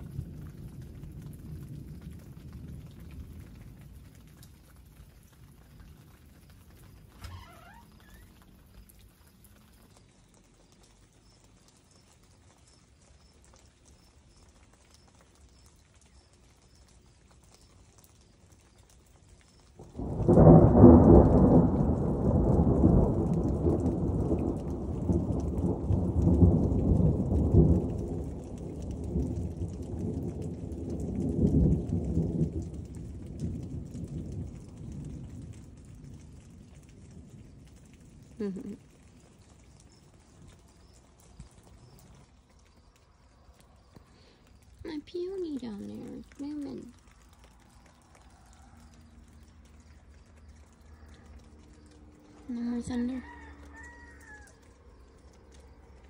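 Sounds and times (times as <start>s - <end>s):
thunder rumbling: 0.0s - 56.0s.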